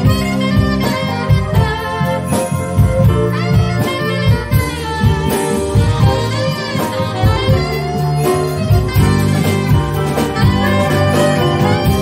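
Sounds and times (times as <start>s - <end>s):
electric guitar: 0.0s - 12.0s
piano: 0.0s - 12.0s
saxophone sustained notes: 0.0s - 12.0s
steady drum beat: 0.0s - 12.0s.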